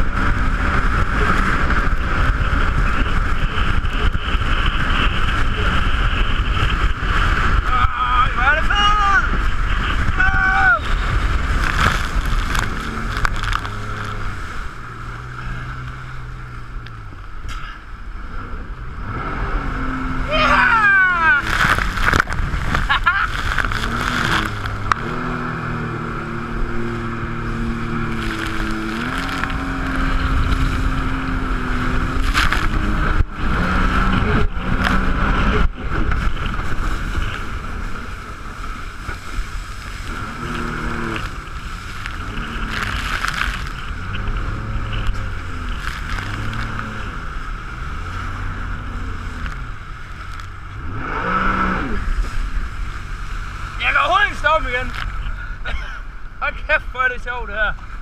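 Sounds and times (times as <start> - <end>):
jet ski engine revving: 0.0 - 56.6.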